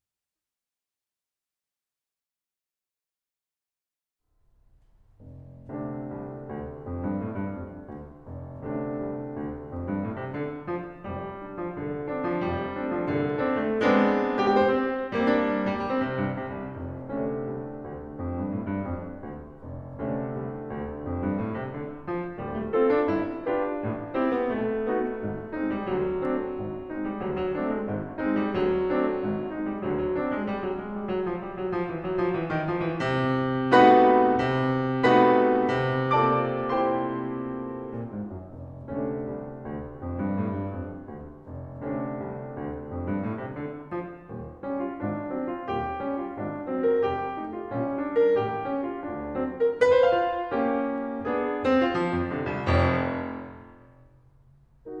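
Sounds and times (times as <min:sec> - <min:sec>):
solo piano music: 0:04.6 - 0:55.0.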